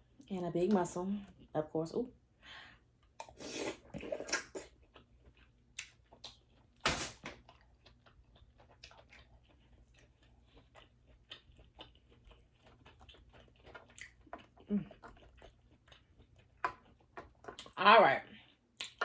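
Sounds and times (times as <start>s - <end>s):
chewing and wet mouth sounds: 3.0s - 6.8s, 7.4s - 19.0s.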